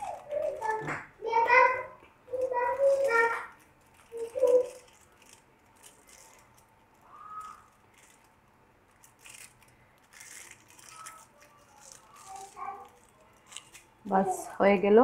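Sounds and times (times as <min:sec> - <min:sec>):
aluminium foil crinkling: 0:00.0 - 0:00.8, 0:02.3 - 0:14.6.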